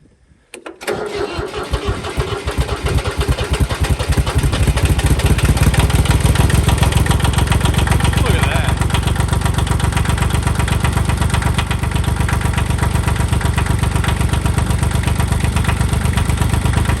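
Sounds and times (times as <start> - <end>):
diesel tractor engine running: 0.8 - 17.0.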